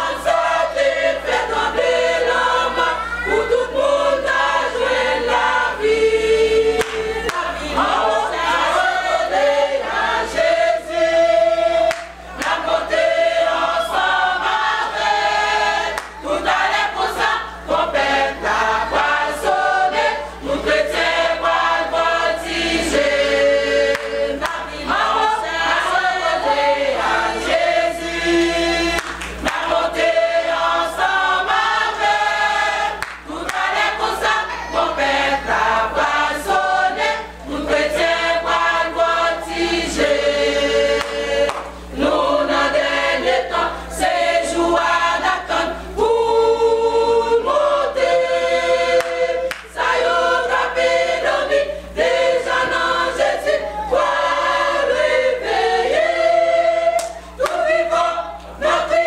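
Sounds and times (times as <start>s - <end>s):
choir singing a worship song: 0.0s - 59.0s.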